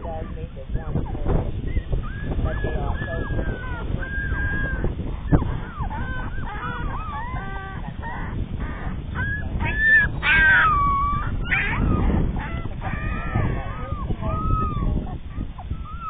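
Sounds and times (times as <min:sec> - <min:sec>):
puppies whining and crying: 0:00.0 - 0:16.0
wind rumble on microphone: 0:00.0 - 0:16.0.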